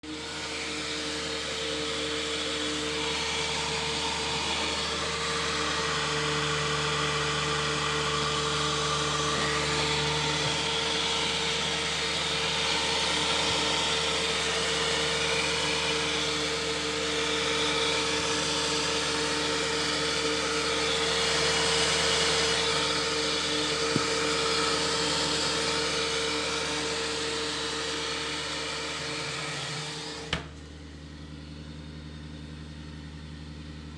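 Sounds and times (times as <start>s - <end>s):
small electric motor whirring: 0.0s - 30.5s.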